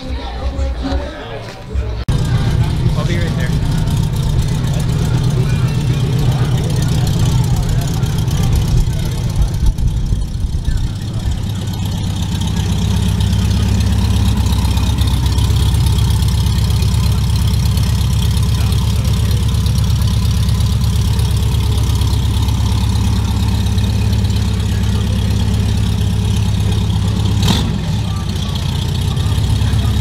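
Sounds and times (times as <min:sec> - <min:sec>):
car engine idling: 0:02.0 - 0:30.0.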